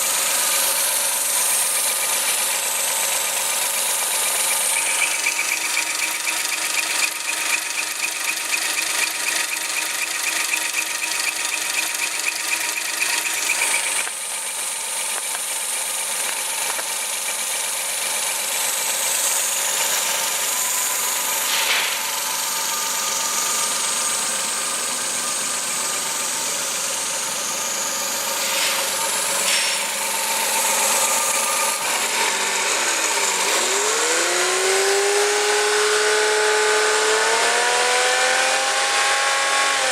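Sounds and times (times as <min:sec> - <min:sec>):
engine idling: 0:00.0 - 0:36.5
engine revving: 0:00.0 - 0:39.9
high whine: 0:00.0 - 0:39.9.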